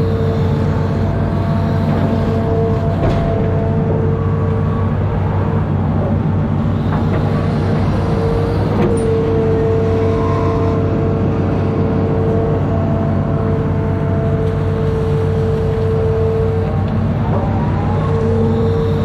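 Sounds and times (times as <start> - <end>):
excavator diesel engine running: 0.0 - 19.0
steady whine: 0.0 - 19.0.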